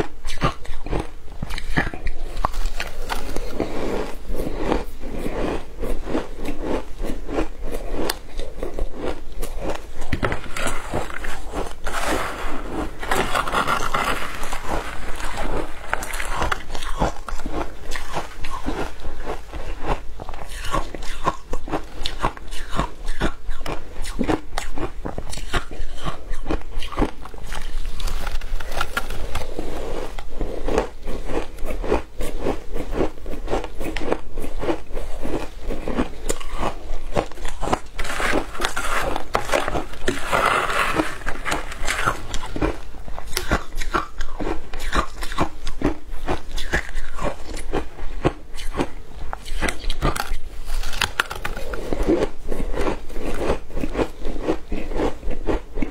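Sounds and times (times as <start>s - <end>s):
ice crunching while chewed: 0.0s - 55.9s.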